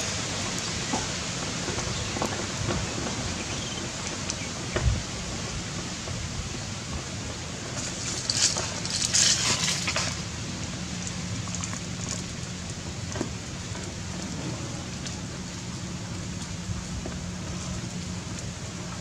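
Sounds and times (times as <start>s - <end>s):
dry crackling noise: 0.0s - 19.0s
low background hum: 0.0s - 19.0s.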